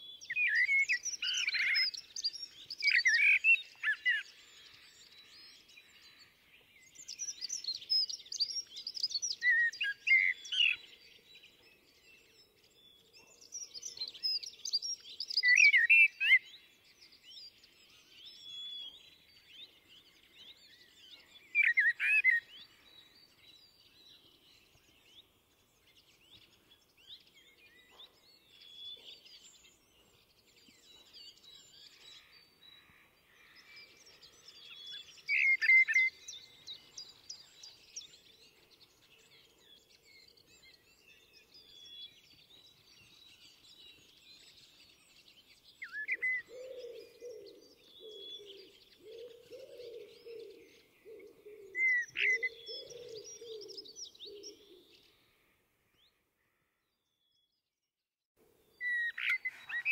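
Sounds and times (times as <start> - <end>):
blackbird singing: 0.0 - 55.3, 58.7 - 59.9.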